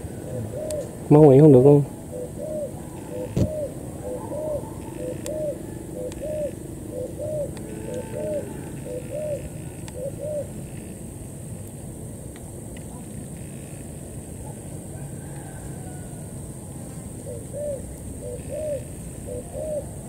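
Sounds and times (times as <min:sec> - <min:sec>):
dove cooing: 0:00.0 - 0:11.1, 0:14.4 - 0:20.0.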